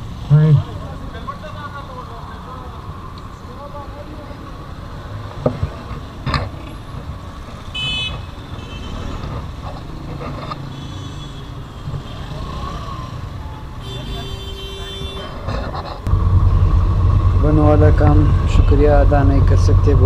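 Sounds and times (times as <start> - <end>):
motorcycle engines: 0.0 - 20.0
street traffic rumbling: 0.0 - 20.0.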